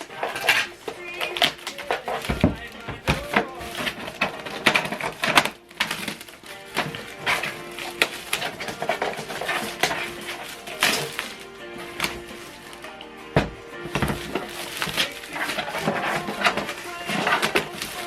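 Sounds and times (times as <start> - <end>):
background music: 0.0 - 18.0
plastic wrapping crinkling: 0.0 - 18.0.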